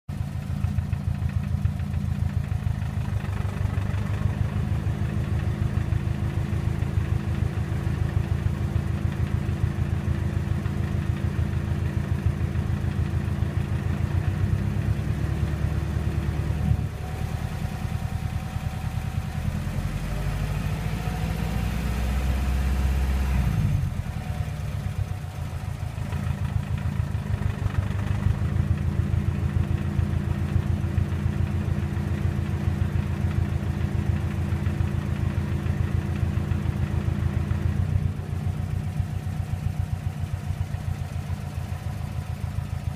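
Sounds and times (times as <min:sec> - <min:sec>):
car engine idling: 0:00.1 - 0:42.9.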